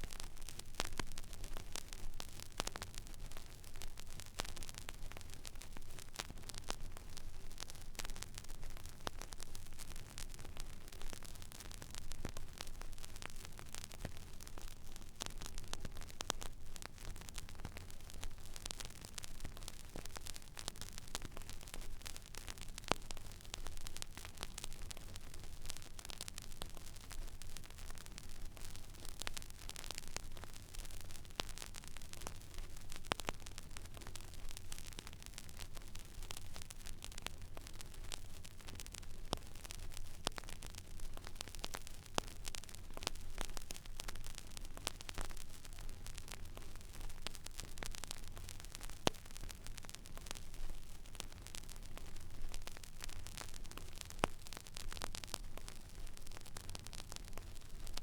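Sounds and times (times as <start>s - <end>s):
vinyl crackles and pops: 0.0s - 58.0s.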